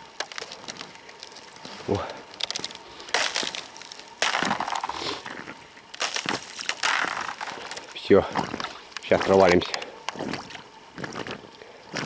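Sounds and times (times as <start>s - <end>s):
ice cracking: 0.1s - 11.4s
rubber boots crunching on ice: 0.2s - 12.0s.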